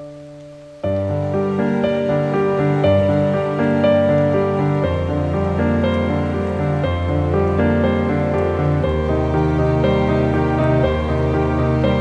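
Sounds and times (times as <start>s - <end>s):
slow sad new-age music: 0.0s - 12.0s.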